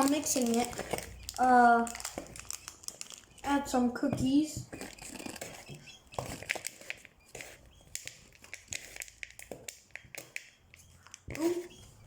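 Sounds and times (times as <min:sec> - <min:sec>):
packet crinkling: 0:00.0 - 0:04.0, 0:04.7 - 0:11.7.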